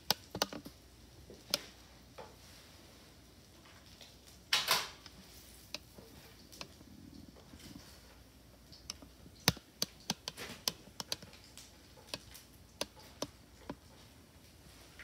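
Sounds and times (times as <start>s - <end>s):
frying oil popping and crackling: 0.0s - 15.0s.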